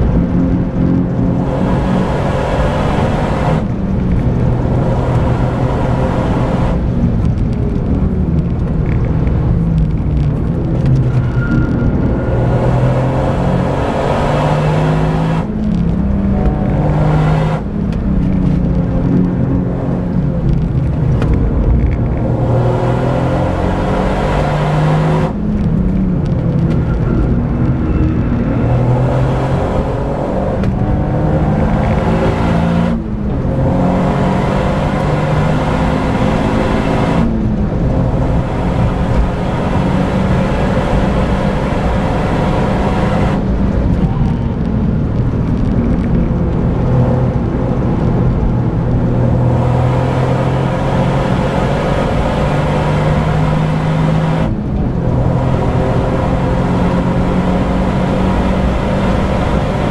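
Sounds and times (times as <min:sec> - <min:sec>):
car engine accelerating: 0:00.0 - 0:59.9
tyre and road noise: 0:00.0 - 0:59.9.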